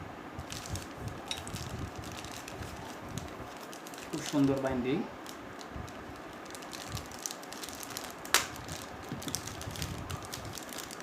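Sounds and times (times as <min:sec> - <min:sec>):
packaging rustling and crinkling: 0:00.4 - 0:11.0.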